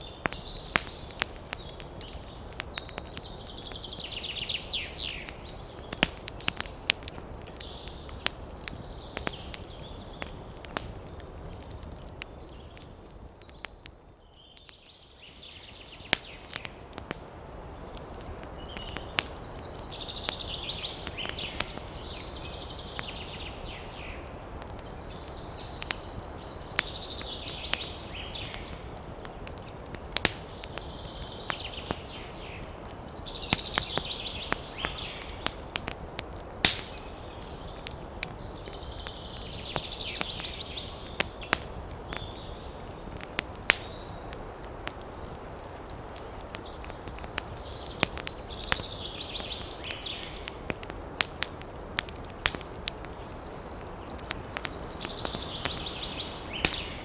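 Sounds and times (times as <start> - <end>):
campfire crackling and popping: 0.0 - 57.0
wind in the trees: 0.0 - 57.0.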